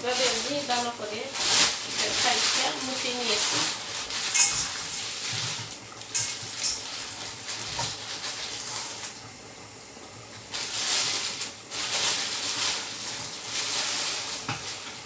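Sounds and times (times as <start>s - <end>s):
plastic bag rustling and crinkling: 0.0s - 9.3s, 10.2s - 15.0s.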